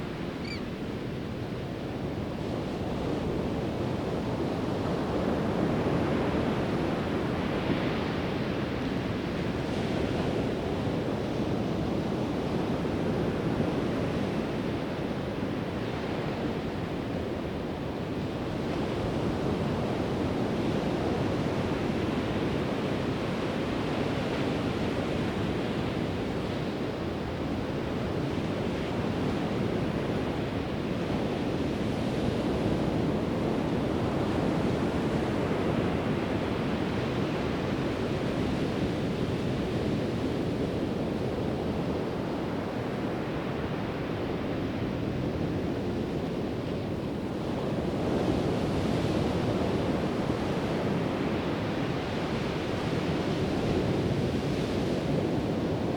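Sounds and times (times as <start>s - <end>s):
waves breaking on a beach: 0.0s - 55.9s.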